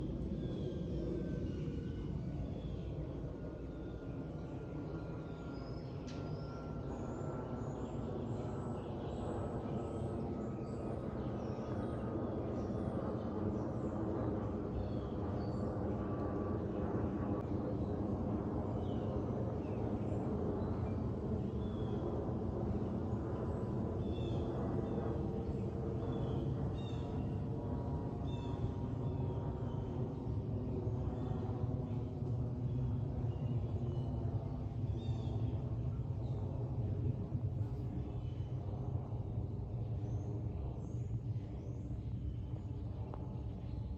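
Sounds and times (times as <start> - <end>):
jet airliner engine roar: 0.0 - 43.9.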